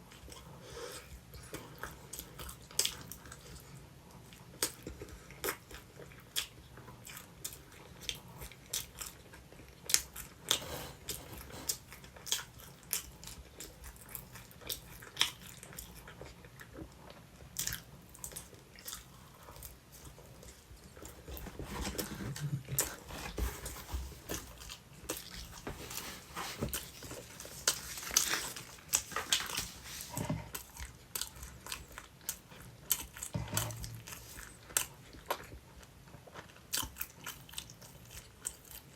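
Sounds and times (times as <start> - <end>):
person chewing crisp food: 0.0 - 38.9.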